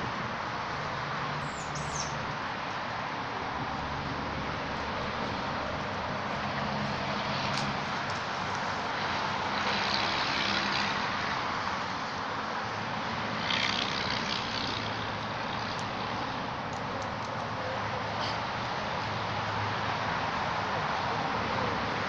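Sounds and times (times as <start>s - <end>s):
engine hiss and hum: 0.0s - 22.0s.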